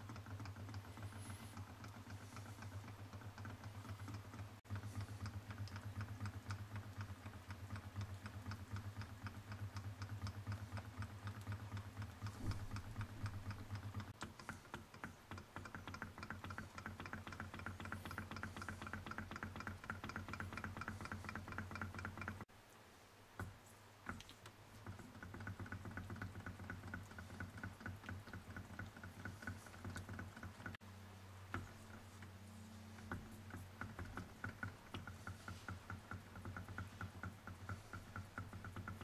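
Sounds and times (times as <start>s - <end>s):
model engine fast ticking: 0.0s - 22.5s, 24.1s - 30.8s, 31.5s - 39.0s
low steady hum: 0.0s - 39.0s.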